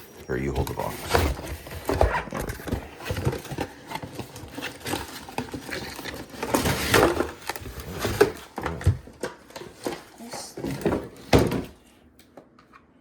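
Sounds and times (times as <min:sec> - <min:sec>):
cardboard packaging rustling: 0:00.0 - 0:11.7.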